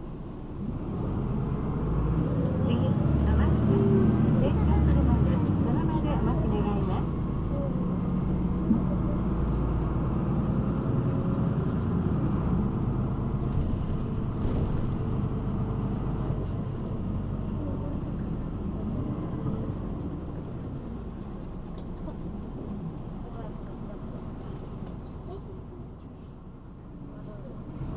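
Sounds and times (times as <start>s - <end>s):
bus engine and road rumble: 0.0s - 27.9s.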